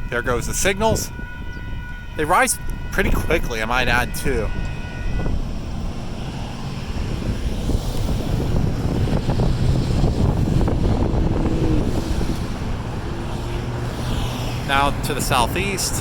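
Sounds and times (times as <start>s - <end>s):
road traffic rumble: 0.0s - 16.0s
wind buffeting microphone: 0.0s - 16.0s.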